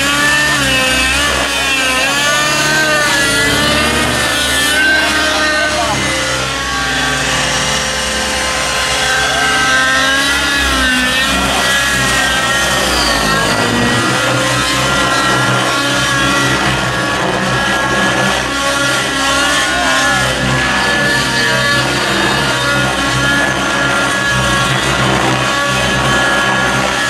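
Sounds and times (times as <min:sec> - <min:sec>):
model helicopter rotors whining: 0:00.0 - 0:27.0.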